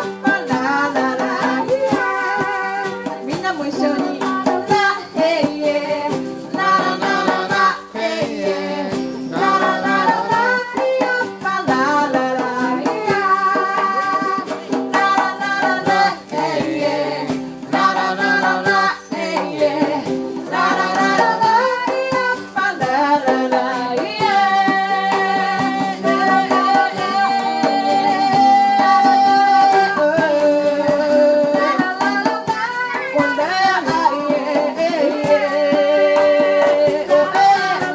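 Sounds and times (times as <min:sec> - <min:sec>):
band playing music: 0:00.0 - 0:37.9.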